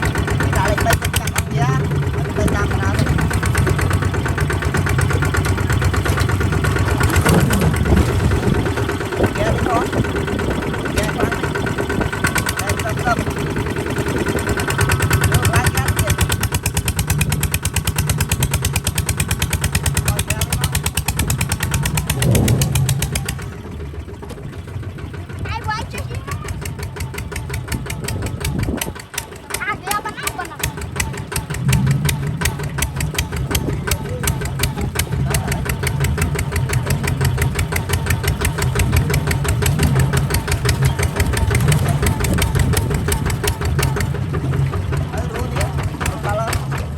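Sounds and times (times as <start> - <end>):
diesel engine chugging: 0.0 - 46.9.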